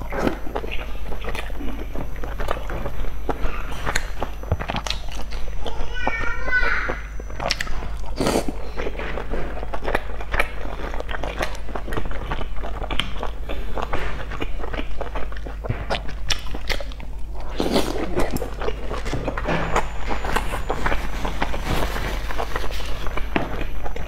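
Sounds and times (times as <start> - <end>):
chewing soft dumplings: 0.0 - 24.0
low steady hum: 0.0 - 24.0.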